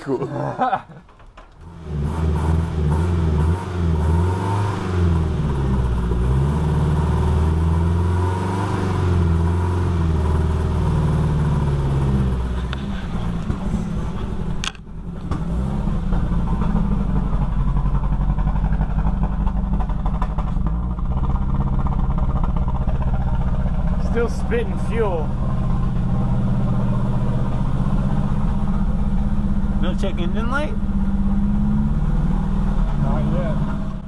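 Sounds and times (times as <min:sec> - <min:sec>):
car engine running: 0:01.5 - 0:34.0.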